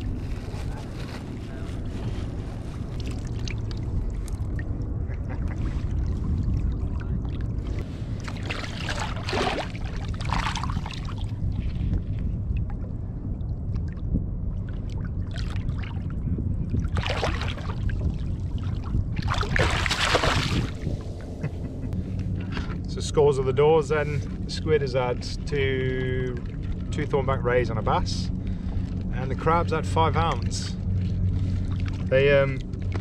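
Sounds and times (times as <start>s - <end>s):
water splashing around kayak: 0.0s - 21.5s, 24.0s - 33.0s
low rumble: 0.0s - 33.0s.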